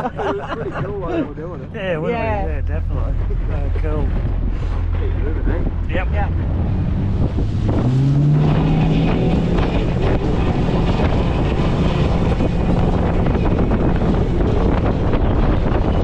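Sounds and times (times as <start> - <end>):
wind buffeting microphone: 0.0 - 16.0
outboard motor revving: 1.0 - 16.0.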